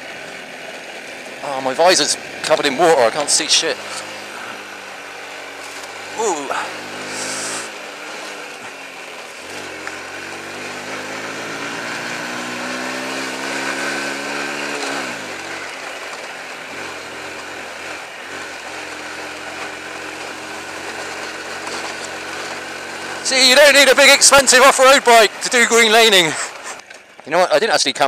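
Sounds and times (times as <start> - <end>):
small motorcycle engine revving: 0.0 - 27.2.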